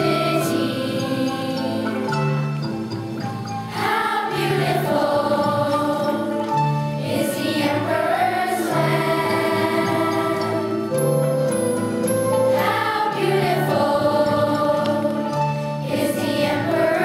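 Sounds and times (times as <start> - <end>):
choir singing: 0.0 - 2.4, 3.7 - 11.6, 12.4 - 17.0
instrumental accompaniment: 0.0 - 17.0.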